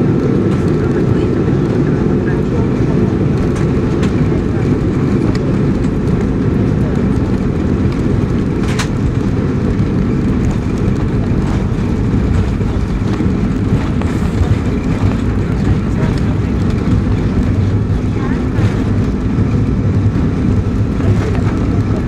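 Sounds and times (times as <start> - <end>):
jet engines rumbling at takeoff: 0.0 - 22.0.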